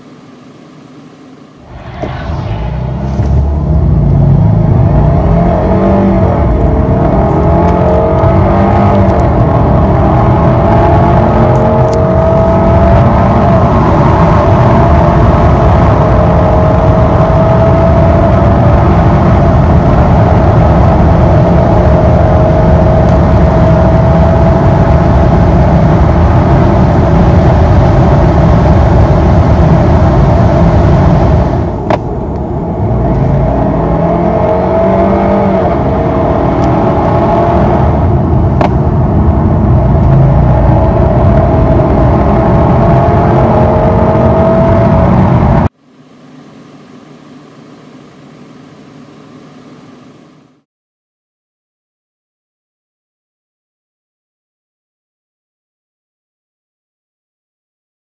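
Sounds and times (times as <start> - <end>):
car engine at full throttle: 0.0 - 50.6.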